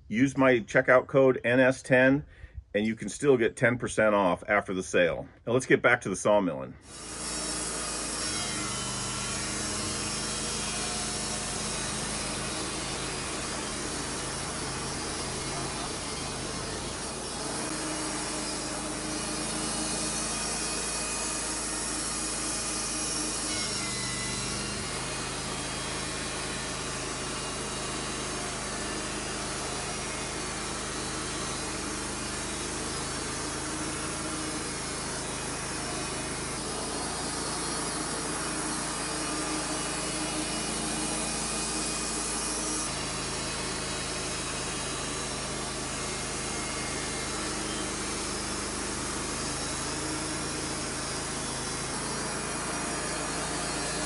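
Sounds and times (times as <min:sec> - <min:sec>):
band blade sawing log: 0:06.8 - 0:54.0
engine running: 0:06.8 - 0:54.0.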